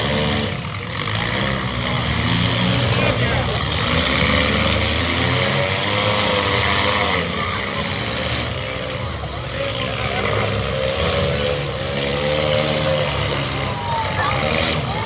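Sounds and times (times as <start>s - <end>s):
car engines revving: 0.0s - 15.0s
crowd voices: 0.0s - 15.0s.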